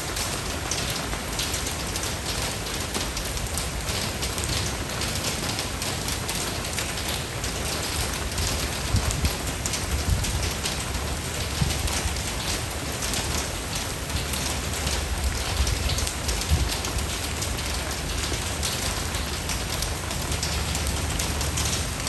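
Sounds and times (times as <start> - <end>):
continuous rainfall: 0.0 - 22.0
raindrops striking close by: 0.0 - 22.0.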